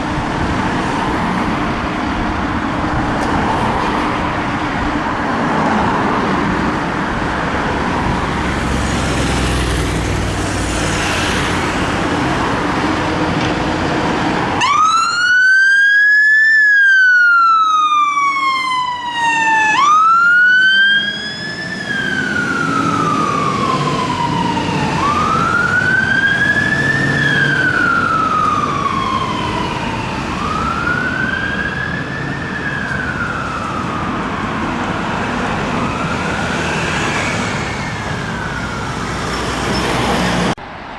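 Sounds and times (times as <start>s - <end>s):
road traffic: 0.0s - 40.9s
fire engine siren wailing: 5.2s - 13.5s, 14.1s - 40.6s.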